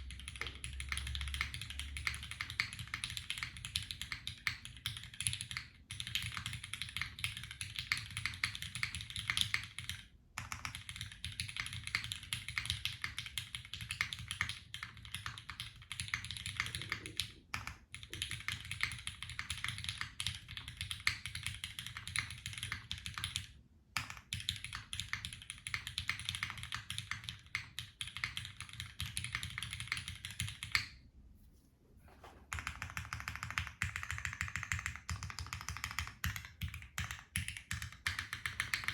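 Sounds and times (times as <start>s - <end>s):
fast mechanical keyboard typing: 0.0s - 30.9s, 32.5s - 38.9s.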